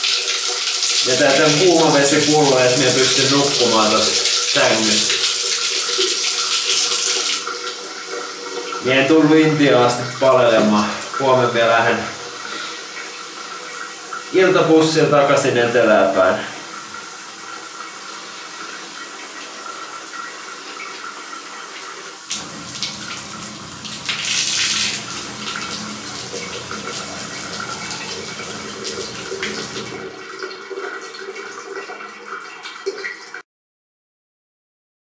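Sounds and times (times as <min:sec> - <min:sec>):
water running from tap into bottle: 0:00.0 - 0:33.4.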